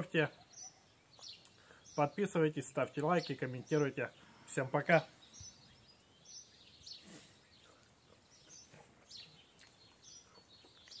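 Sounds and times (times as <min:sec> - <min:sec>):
faint bird chirps: 0:00.2 - 0:02.2, 0:03.2 - 0:11.0.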